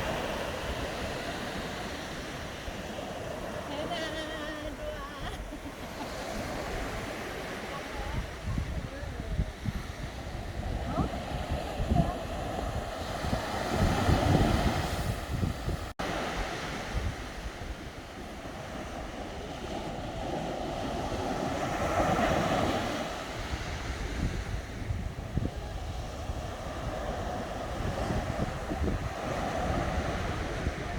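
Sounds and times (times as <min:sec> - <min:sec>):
sea waves washing ashore: 0:00.0 - 0:30.9
wind rumbling on microphone: 0:00.0 - 0:30.9.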